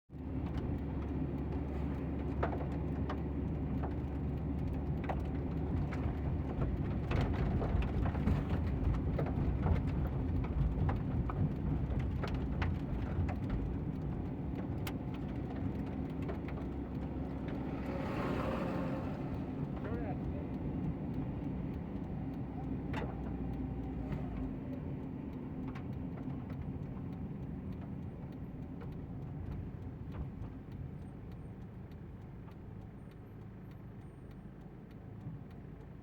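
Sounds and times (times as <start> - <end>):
heavy engine running: 0.1 - 31.2
sharp clicks and crackles: 0.1 - 36.0.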